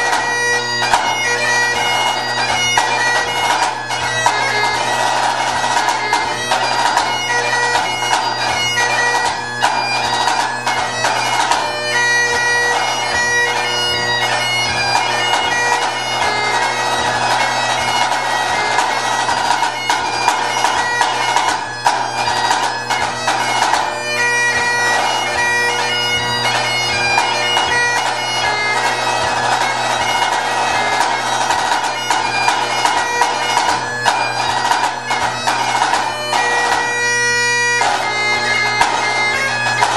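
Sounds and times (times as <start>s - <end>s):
bagpipe playing a tune: 0.0s - 39.9s.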